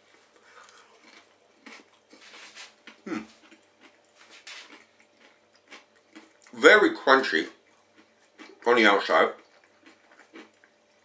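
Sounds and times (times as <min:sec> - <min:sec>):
person chewing: 0:00.1 - 0:06.6, 0:07.4 - 0:11.0.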